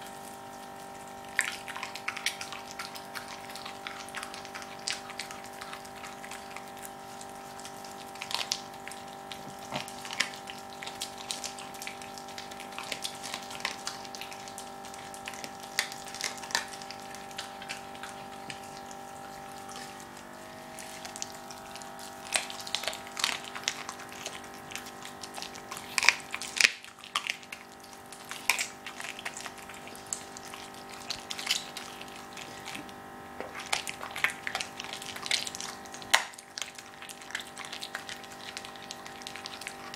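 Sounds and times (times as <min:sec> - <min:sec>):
dog chewing bone: 0:00.0 - 0:39.9
steady hum: 0:00.0 - 0:39.9.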